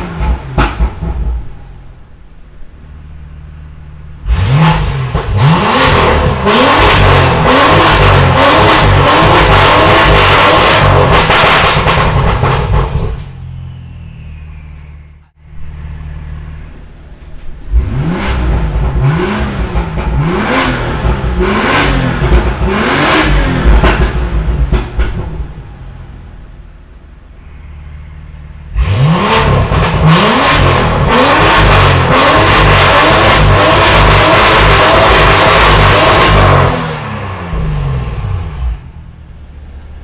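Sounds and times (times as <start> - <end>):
car engine revving in blips: 0.0 - 40.0.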